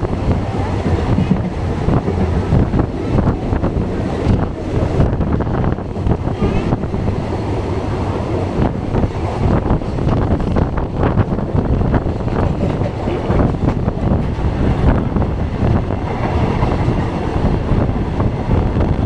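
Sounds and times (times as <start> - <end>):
sharp track clacks: 0.0 - 19.0
train low rumble: 0.0 - 19.0
wind rushing past: 0.0 - 19.0.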